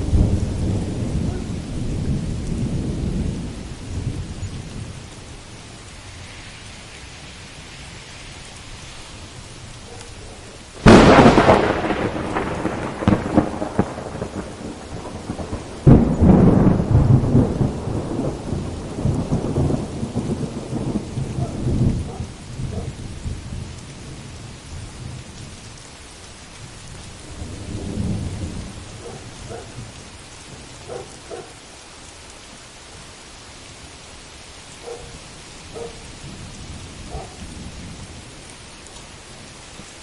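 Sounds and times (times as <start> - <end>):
thunder rumbling: 0.0 - 25.7, 26.6 - 31.7, 34.8 - 38.6
heavy rain: 0.0 - 40.0.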